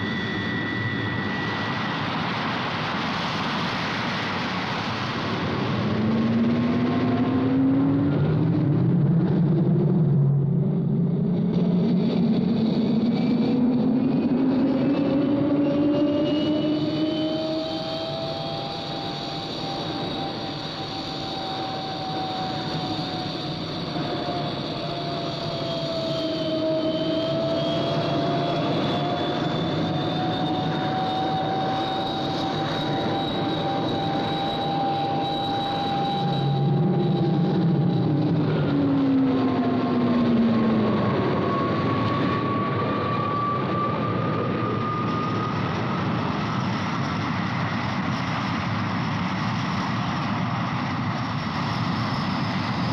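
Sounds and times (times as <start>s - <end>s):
jet aircraft whine: 0.0s - 52.9s.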